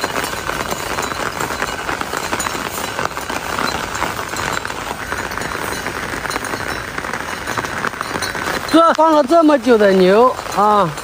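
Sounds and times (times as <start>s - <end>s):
rain pattering on an umbrella: 0.0s - 11.0s.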